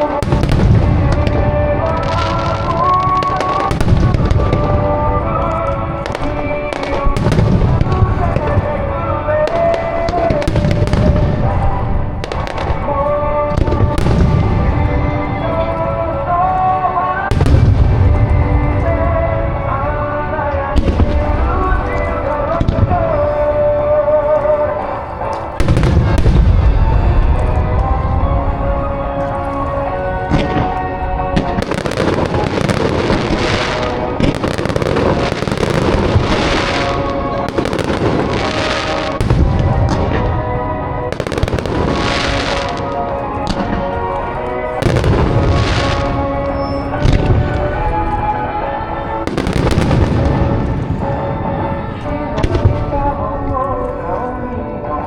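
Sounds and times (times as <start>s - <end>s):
fireworks bangs and crackles: 0.0s - 55.0s
fireworks rumbling: 0.0s - 55.0s
music with held melody: 0.0s - 55.0s.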